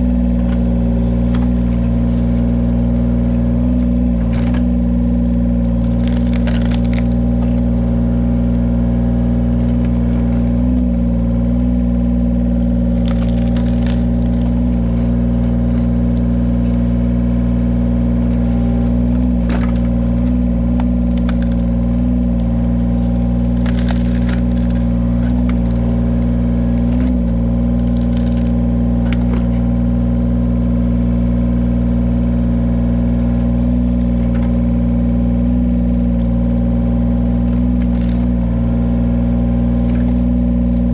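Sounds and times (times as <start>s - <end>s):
logs cracking as they split: 0.0s - 40.9s
wood splitter engine running: 0.0s - 40.9s.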